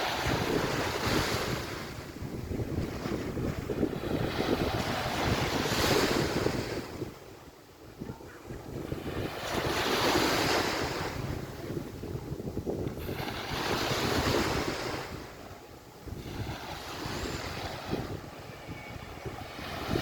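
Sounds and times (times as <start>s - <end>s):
surf washing onto beach: 0.0s - 7.2s, 7.9s - 20.0s
wind rumbling on microphone: 0.0s - 20.0s.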